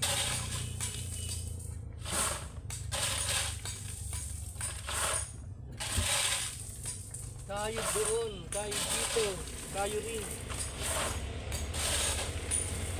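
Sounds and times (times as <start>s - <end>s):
shovel scraping gravel: 0.0s - 12.9s
stones clattering off blade: 0.0s - 12.9s.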